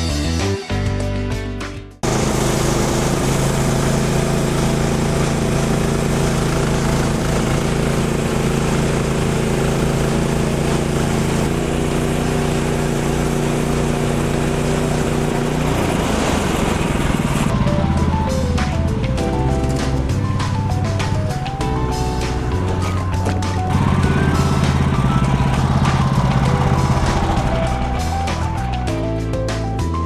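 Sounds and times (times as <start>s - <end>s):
small gasoline engine running: 2.0s - 29.1s.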